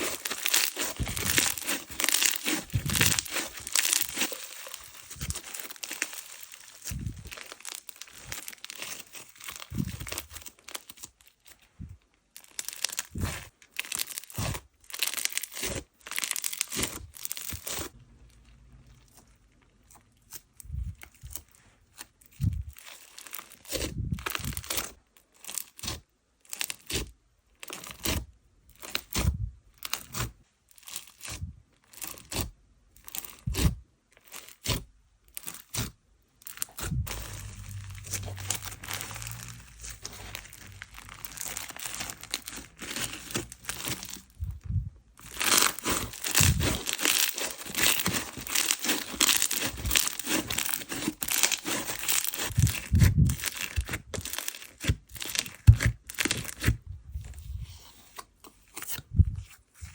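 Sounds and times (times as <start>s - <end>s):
slime squishing and crackling: 0.0s - 59.9s.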